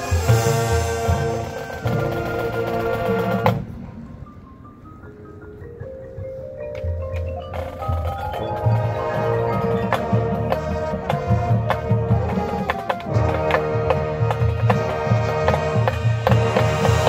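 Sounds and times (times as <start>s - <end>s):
marching band playing: 0.0s - 4.6s, 5.5s - 17.0s
mallet percussion repeated notes: 0.0s - 17.0s.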